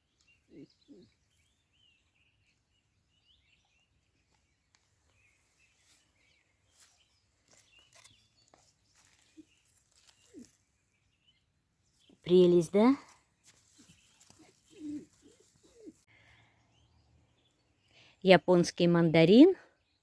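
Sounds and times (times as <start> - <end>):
faint bird chirps: 0.0 - 18.2.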